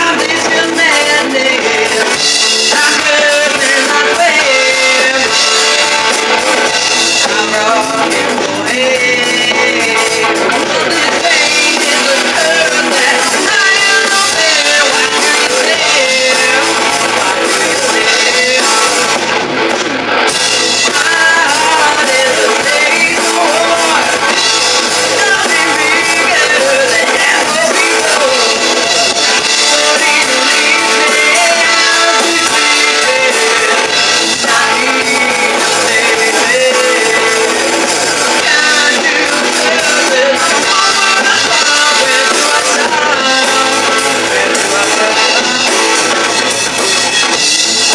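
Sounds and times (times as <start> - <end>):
woman singing lead: 0.0 - 19.4, 20.2 - 46.5
live rock band playing: 0.0 - 47.9.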